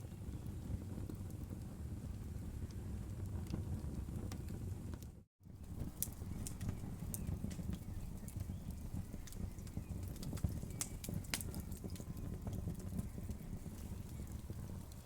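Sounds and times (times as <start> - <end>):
burning wood crackling and popping: 0.0 - 15.0
low rumble of flames: 0.0 - 15.0.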